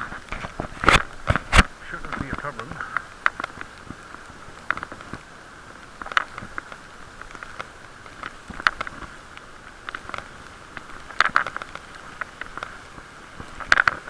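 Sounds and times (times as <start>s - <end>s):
muffled hiss: 0.0s - 14.0s
rain tapping on a case: 0.0s - 14.0s.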